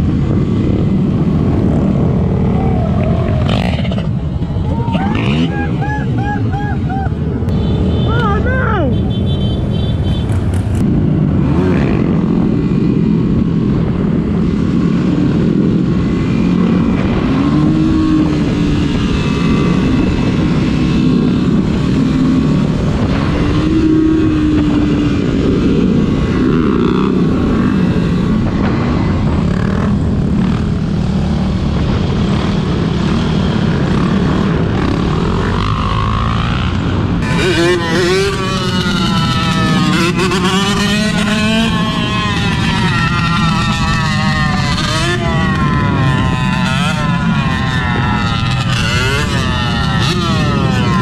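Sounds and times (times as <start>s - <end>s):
loud steady rush: 0.0s - 51.0s
motorcycle engines revving: 0.0s - 51.0s.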